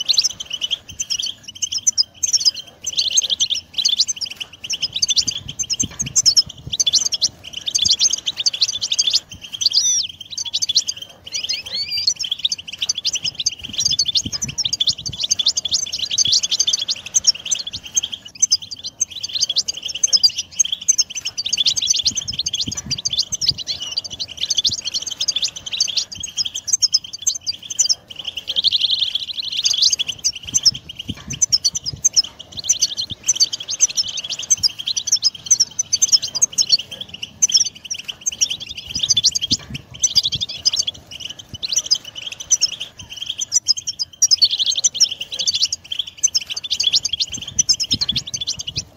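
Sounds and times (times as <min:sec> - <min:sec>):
finch twittering song: 0:00.0 - 0:48.9.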